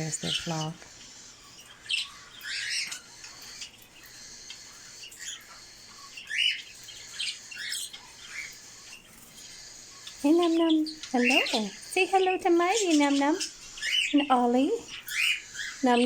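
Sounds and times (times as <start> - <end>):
background twitter of flock: 0.0 - 16.0
budgerigars chirping and squawking: 0.0 - 16.0.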